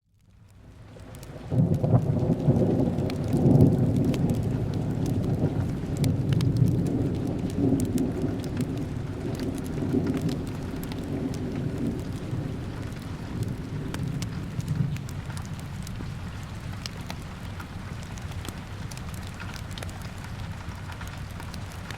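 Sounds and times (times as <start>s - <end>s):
steady rain: 0.1s - 21.9s
low rolling thunder: 1.0s - 19.6s.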